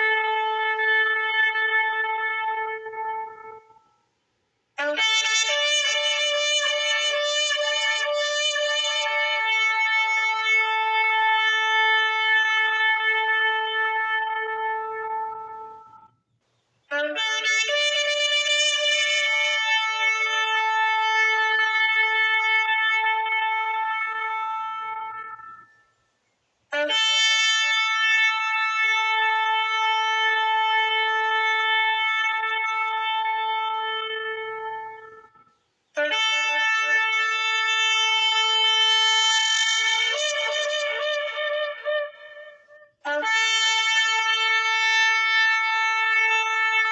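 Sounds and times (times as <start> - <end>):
ram's horn long blasts: 0.0 - 4.1, 4.8 - 16.1, 16.9 - 25.9, 26.7 - 46.9.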